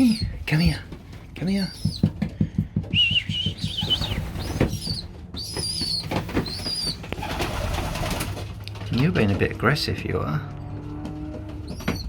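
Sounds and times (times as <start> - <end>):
young pigeons peeping: 0.0 - 9.2, 10.8 - 12.0.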